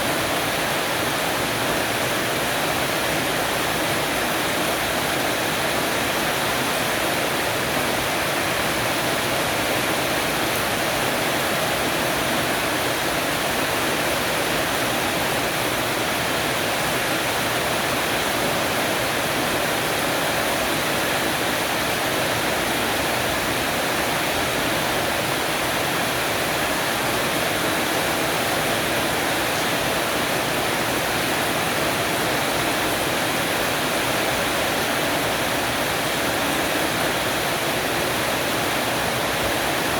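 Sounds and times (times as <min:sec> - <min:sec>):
rain on an awning roof: 0:00.0 - 0:39.9.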